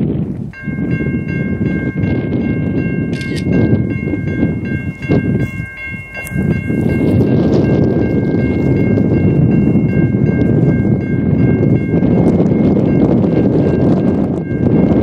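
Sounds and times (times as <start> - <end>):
train rumbling past: 0.0 - 15.0
ringing warning bell tones: 0.5 - 15.0.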